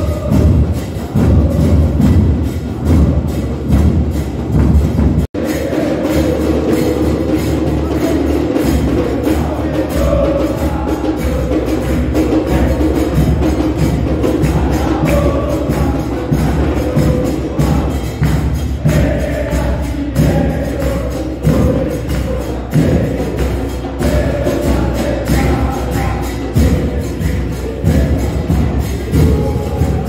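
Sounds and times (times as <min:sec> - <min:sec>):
bass drums beating: 0:00.0 - 0:30.0
crowd chanting: 0:00.0 - 0:30.0.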